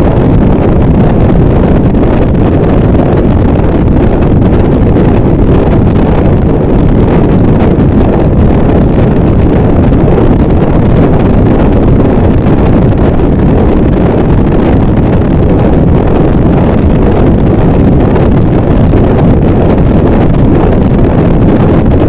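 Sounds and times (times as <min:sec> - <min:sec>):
dense distorted noise wall: 0:00.0 - 0:22.0.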